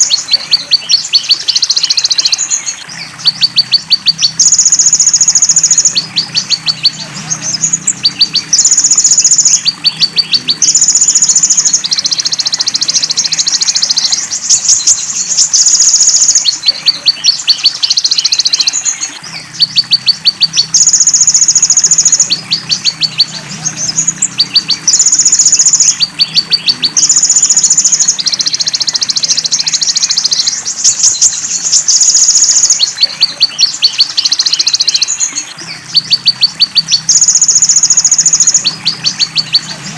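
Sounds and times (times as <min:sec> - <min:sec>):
fast ticking bird trills: 0:00.0 - 0:39.9.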